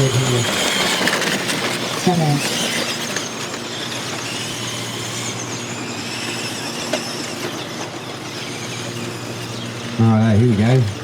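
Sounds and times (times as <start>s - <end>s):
electric rc car motors whining: 0.0s - 11.0s.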